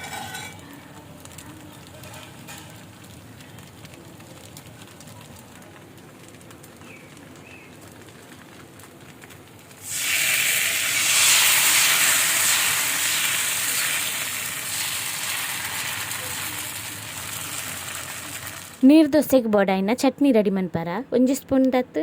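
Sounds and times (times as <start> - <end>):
batter sizzling on hot griddle: 0.0 - 18.9.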